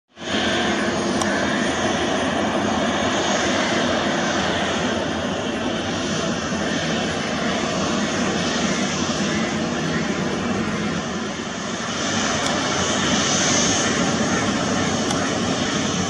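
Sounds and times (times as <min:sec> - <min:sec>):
jet engines running: 0:00.1 - 0:16.0.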